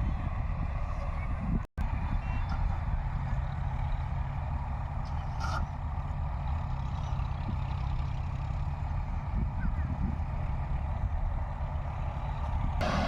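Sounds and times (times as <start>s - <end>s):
combine harvester engine rumble: 0.0s - 13.0s.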